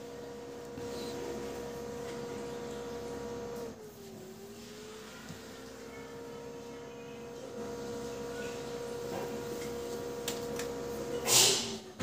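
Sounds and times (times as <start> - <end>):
laser printer motor hum: 0.0 - 11.7.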